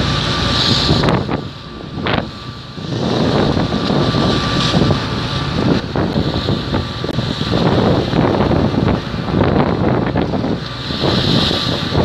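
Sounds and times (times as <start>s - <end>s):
ship engines rumbling: 0.0s - 12.0s
water rushing along hull: 0.0s - 12.0s
wind buffeting microphone: 0.0s - 12.0s.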